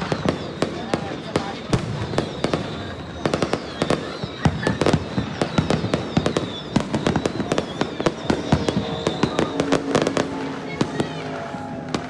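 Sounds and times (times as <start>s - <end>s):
fireworks and firecrackers banging: 0.0s - 12.0s.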